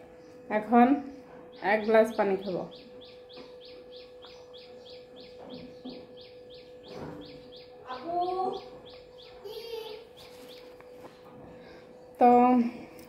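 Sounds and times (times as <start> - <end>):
faint steady hum: 0.0 - 13.0
small bird chirping: 0.1 - 11.2.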